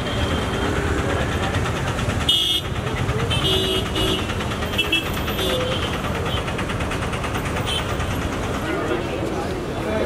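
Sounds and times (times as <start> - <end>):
vehicle engines din: 0.0 - 10.0.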